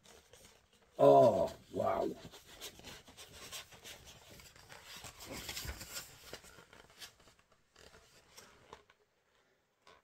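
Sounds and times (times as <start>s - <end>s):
paper poster rustling: 0.0s - 9.0s.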